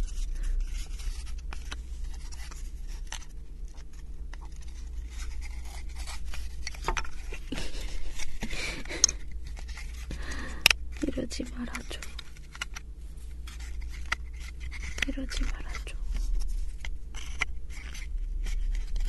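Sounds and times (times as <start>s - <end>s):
wooden pieces scraping and clicking: 0.0s - 19.0s.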